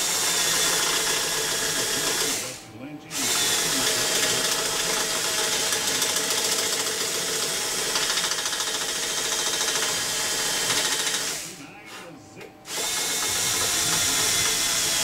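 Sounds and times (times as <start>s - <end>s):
power drill cutting into wood: 0.0s - 11.5s, 12.7s - 15.0s.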